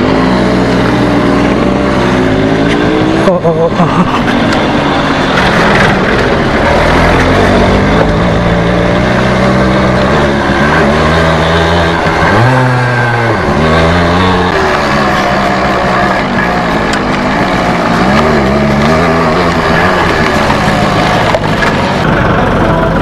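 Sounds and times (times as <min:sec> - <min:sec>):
two-stroke motorcycle engine running: 0:00.0 - 0:23.0.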